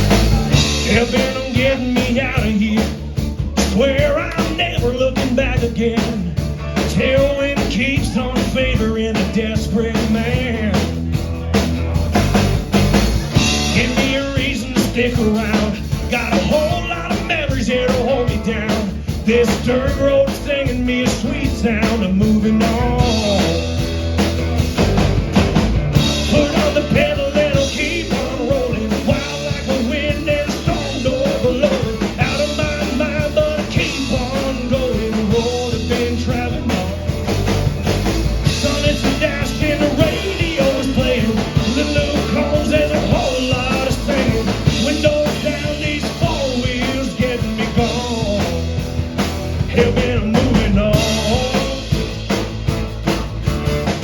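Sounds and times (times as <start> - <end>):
rock and roll band playing: 0.0 - 54.0.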